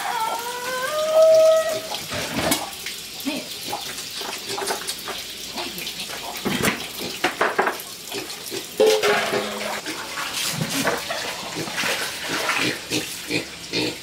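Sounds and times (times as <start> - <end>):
water splashing and sloshing: 0.9 - 14.0.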